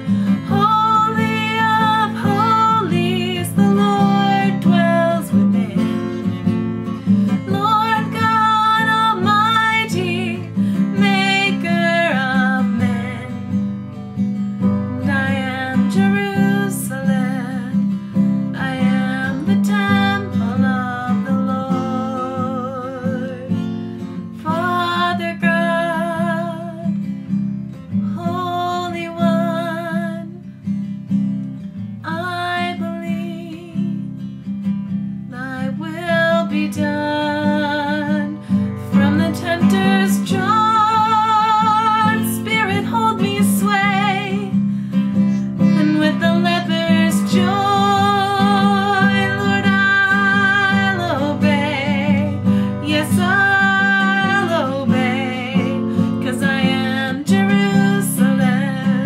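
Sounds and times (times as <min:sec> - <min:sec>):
woman singing with vibrato: 0:00.0 - 0:06.1, 0:07.3 - 0:13.6, 0:15.0 - 0:17.8, 0:18.5 - 0:23.6, 0:24.4 - 0:26.9, 0:28.2 - 0:30.4, 0:32.0 - 0:34.0, 0:35.3 - 0:44.6, 0:45.6 - 0:59.0
acoustic guitar strumming: 0:00.0 - 0:24.8, 0:25.4 - 0:59.0.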